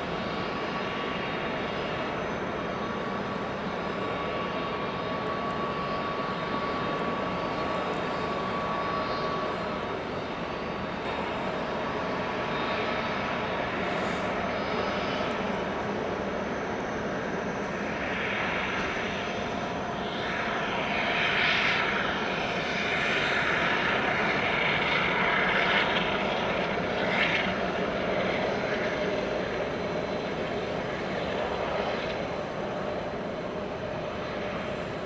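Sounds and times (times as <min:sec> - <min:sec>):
jet engine rumble with whine: 0:00.0 - 0:35.0.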